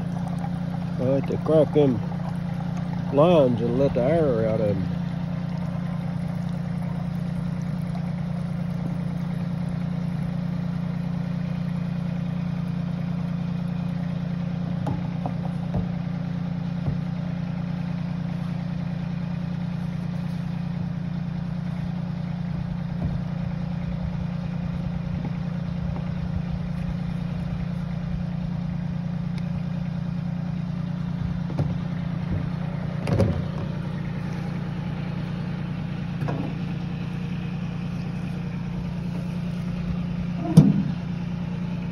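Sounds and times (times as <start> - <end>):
tractor diesel engine idling: 0.0 - 41.9.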